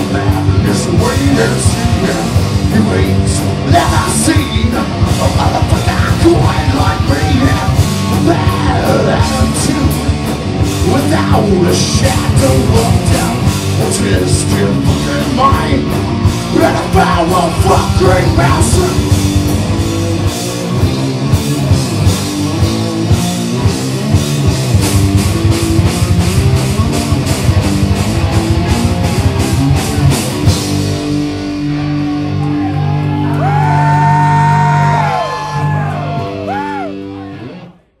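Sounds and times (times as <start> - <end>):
drum kit: 0.0 - 37.6
bass guitar: 0.0 - 38.0
distorted electric guitar: 0.0 - 38.0.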